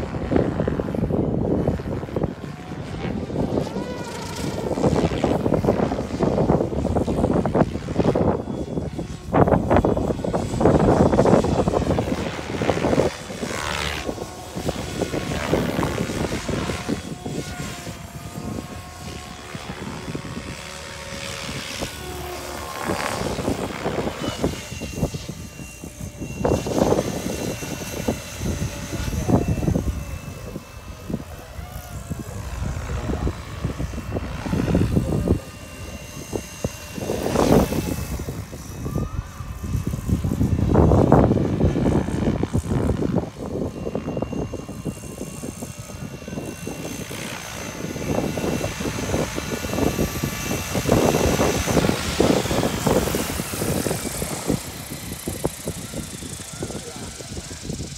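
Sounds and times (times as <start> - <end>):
electric motor whine: 0.0 - 57.9.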